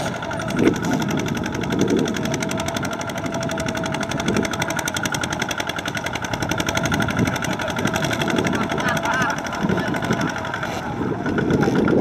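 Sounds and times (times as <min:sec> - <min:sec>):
diesel engine knocking under load: 0:00.0 - 0:12.0.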